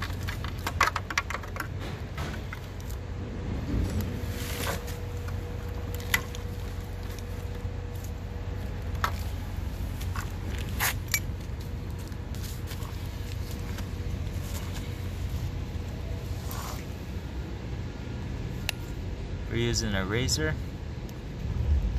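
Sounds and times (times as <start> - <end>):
low background hum: 0.0 - 21.9.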